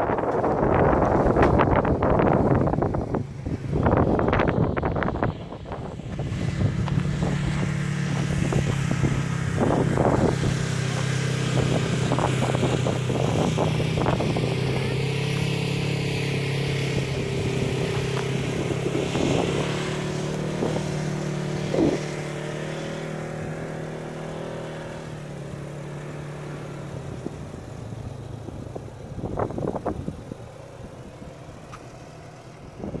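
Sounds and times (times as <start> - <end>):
truck engine running: 0.0 - 33.0.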